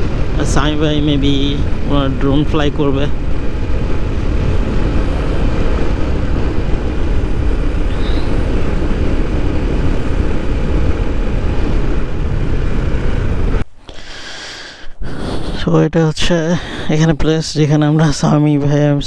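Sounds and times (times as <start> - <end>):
wind rush and road noise: 0.0 - 19.0.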